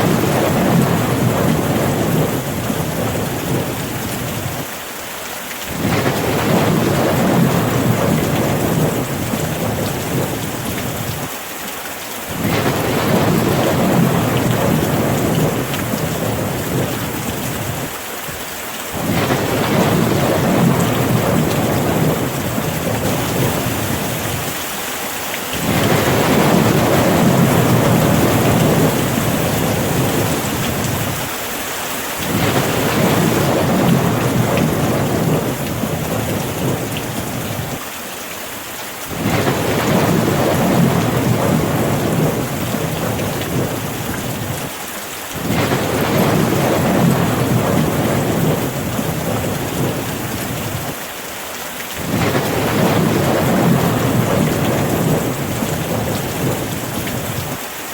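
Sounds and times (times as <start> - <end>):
rolling thunder: 0.0 - 4.7, 5.7 - 11.3, 12.3 - 17.9, 19.0 - 24.6, 25.5 - 31.3, 32.2 - 37.8, 39.1 - 44.7, 45.4 - 51.0, 52.0 - 57.6
steady rain: 0.0 - 57.9.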